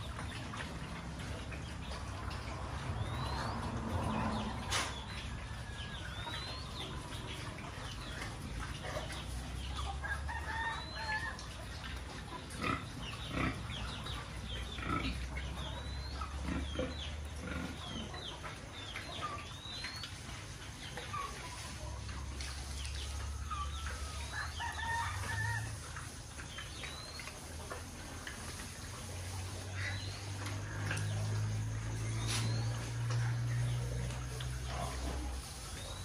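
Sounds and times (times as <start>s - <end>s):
birds chirping and clucking: 0.0s - 36.0s
pigs chewing and slurping: 0.0s - 36.0s.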